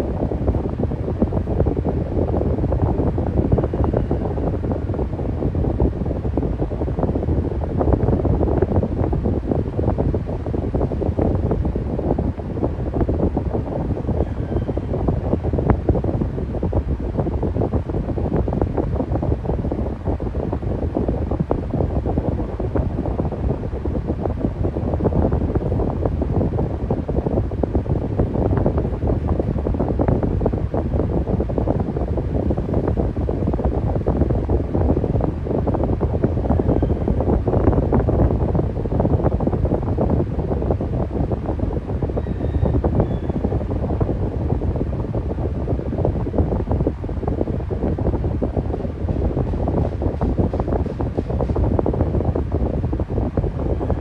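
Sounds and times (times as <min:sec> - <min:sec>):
air buffeting microphone: 0:00.0 - 0:54.0
electric fan running: 0:00.0 - 0:54.0.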